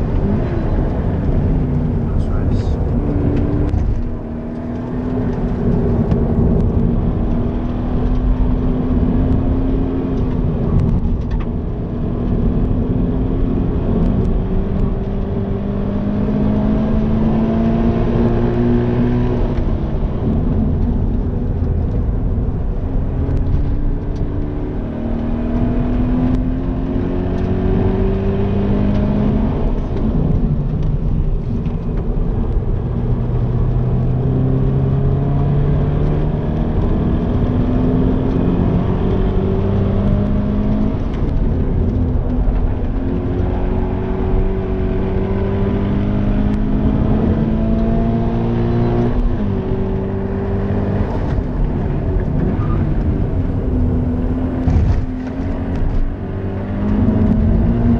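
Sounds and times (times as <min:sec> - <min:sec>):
car engine revving through gears: 0:00.0 - 0:57.9.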